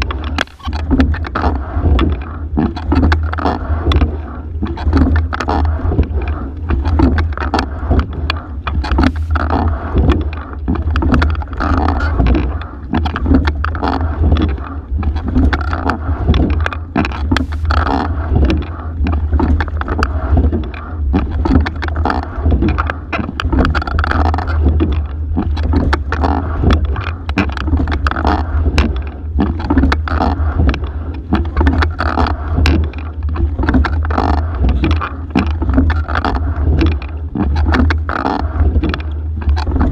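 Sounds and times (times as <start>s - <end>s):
low rumble: 0.0s - 39.9s
oars and rigging knocking: 0.0s - 39.9s
water along boat hull: 0.0s - 39.9s.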